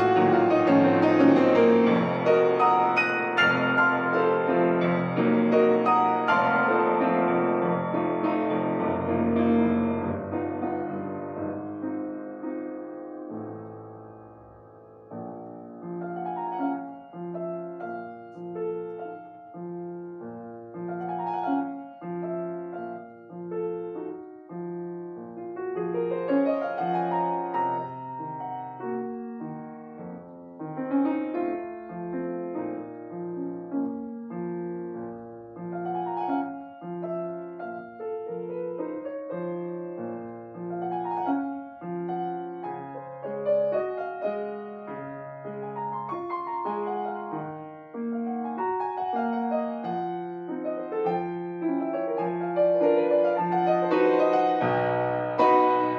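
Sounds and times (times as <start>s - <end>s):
solo piano classical piece: 0.0s - 55.9s.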